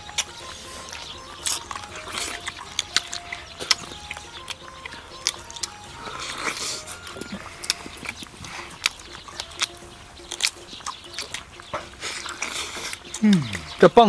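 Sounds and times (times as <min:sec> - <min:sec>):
man chewing and lip-smacking: 0:00.0 - 0:13.8.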